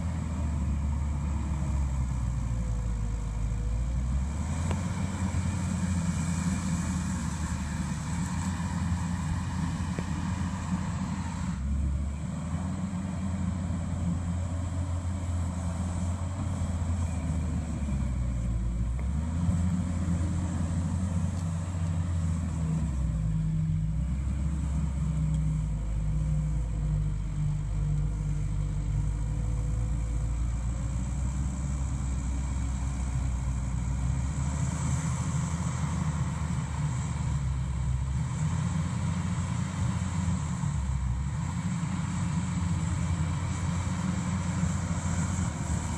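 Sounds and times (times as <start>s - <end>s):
diesel engine under load: 0.0s - 45.9s.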